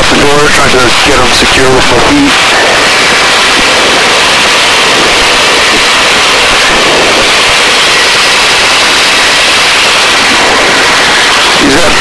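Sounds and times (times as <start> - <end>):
faint high whine: 0.0 - 12.0
helicopter engine and rotors: 0.0 - 12.0.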